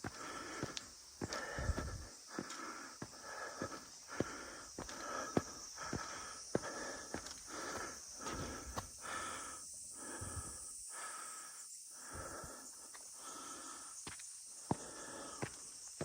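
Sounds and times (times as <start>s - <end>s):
high insect buzz: 0.0s - 16.0s
person breathing hard: 0.0s - 16.0s.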